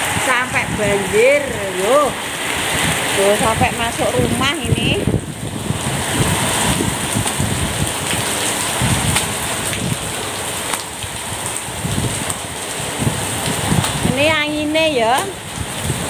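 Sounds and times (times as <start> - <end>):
heavy rain pouring: 0.0 - 16.0
low rumbles: 0.0 - 16.0.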